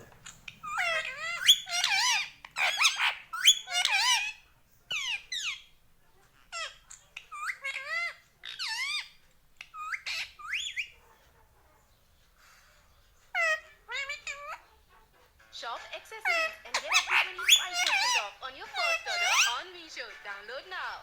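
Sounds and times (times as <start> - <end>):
parakeet calling: 0.0 - 5.8, 6.4 - 11.2, 13.2 - 20.7.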